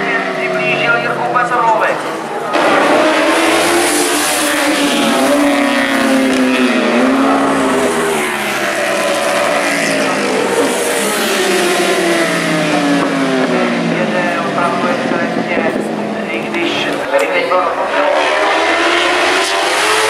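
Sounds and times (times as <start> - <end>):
racing motorcycles passing at speed: 0.0 - 20.0.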